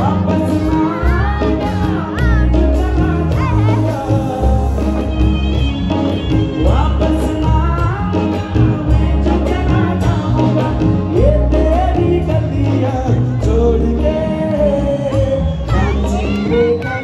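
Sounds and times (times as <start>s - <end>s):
bass line: 0.0s - 17.0s
electric guitar: 0.0s - 17.0s
man singing: 0.0s - 17.0s.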